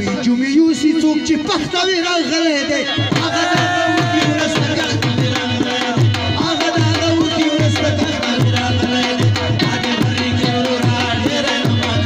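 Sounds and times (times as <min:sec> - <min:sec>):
tabla playing: 0:00.0 - 0:12.0.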